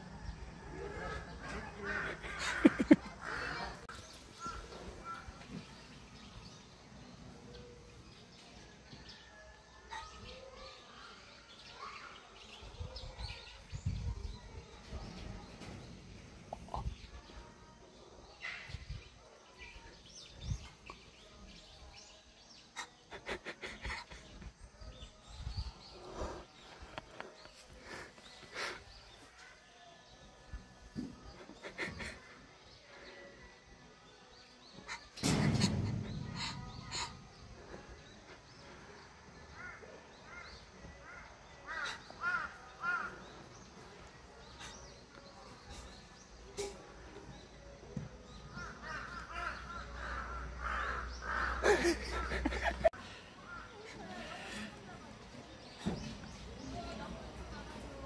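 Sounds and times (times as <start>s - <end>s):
small birds chirping: 9.9s - 58.0s.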